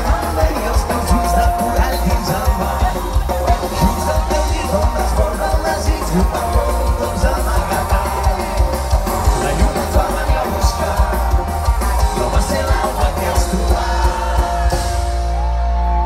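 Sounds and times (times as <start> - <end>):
live band over sound system: 0.0 - 16.0
person singing: 0.0 - 16.0.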